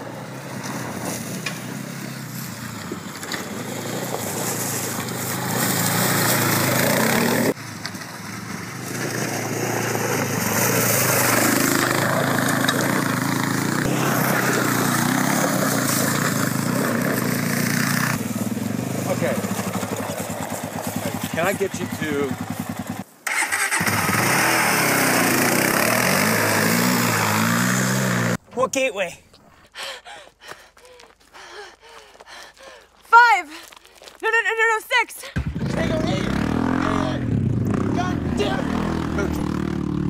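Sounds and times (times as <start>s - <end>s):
atv engine running: 0.4s - 28.4s, 35.4s - 40.0s.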